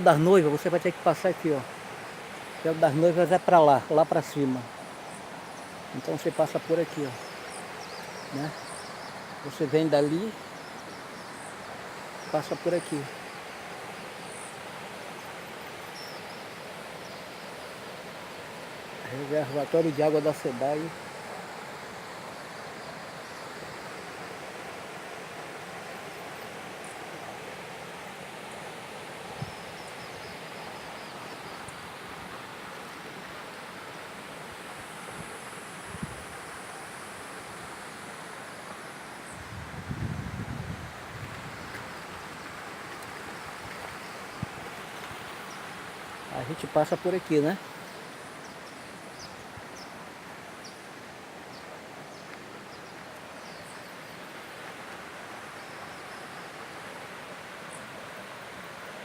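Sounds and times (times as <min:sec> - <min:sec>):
faint insect chirping: 0:00.0 - 0:59.0
water rushing at dam: 0:00.0 - 0:59.0.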